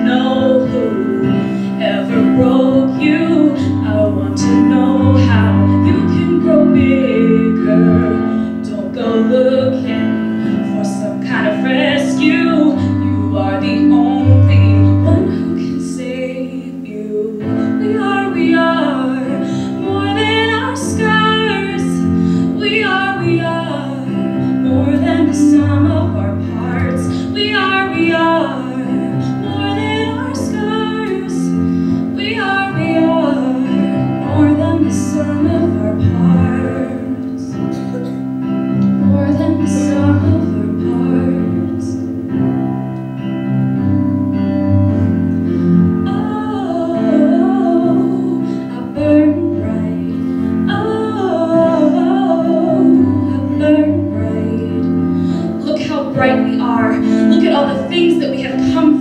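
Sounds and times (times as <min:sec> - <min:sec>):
woman singing slow song: 0:00.0 - 0:42.8, 0:44.9 - 0:59.0
electric keyboard piano chords: 0:00.0 - 0:59.0.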